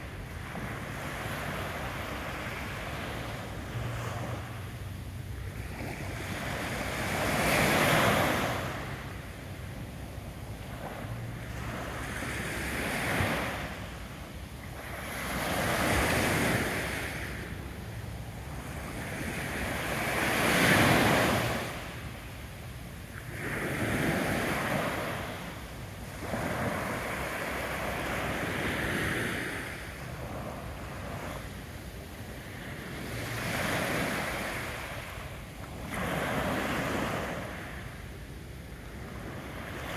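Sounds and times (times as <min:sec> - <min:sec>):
small waves washing on beach: 0:00.0 - 0:39.9.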